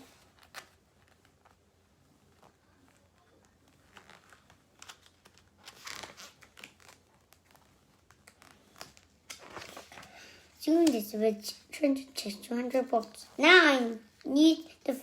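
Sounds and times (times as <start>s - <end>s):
book pages rustling and crinkling: 0.0s - 15.0s.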